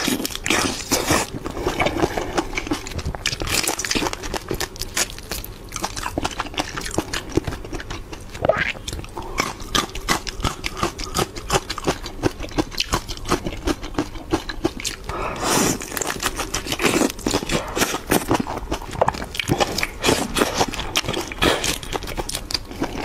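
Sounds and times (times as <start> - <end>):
wet chewing of shrimp: 0.0 - 23.0.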